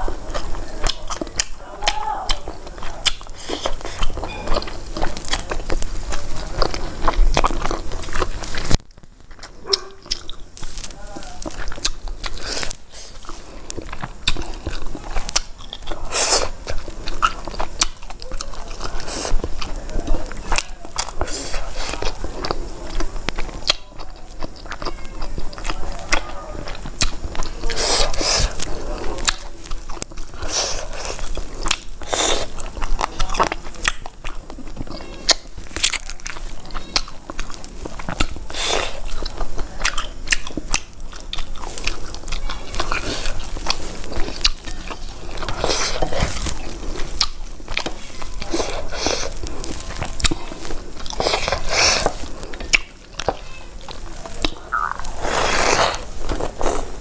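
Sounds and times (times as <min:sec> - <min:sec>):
food crunching: 0:00.0 - 0:57.0
wet chewing and mouth sounds: 0:00.0 - 0:57.0.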